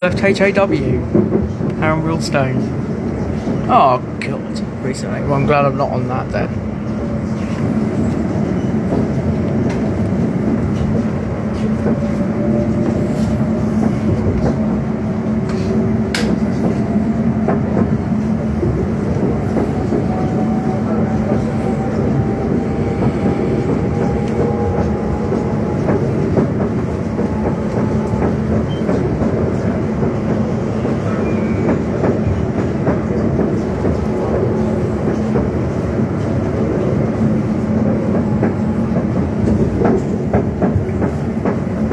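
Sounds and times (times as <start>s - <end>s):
train wheels rumbling on track: 0.0s - 41.9s
train motors whining: 6.8s - 41.8s.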